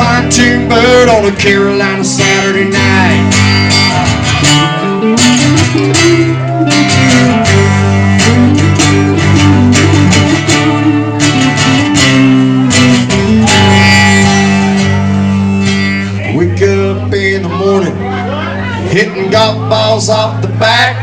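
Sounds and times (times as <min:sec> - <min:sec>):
country music guitar instrumental: 0:00.0 - 0:21.0.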